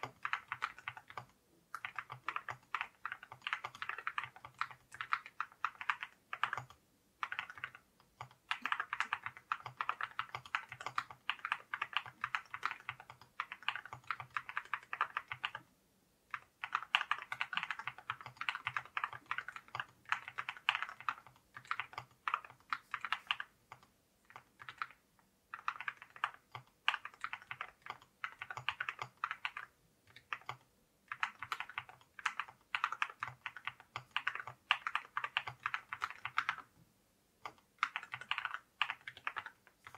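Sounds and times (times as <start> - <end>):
mechanical keyboard typing: 0.0 - 15.7, 16.3 - 36.7, 37.4 - 39.9.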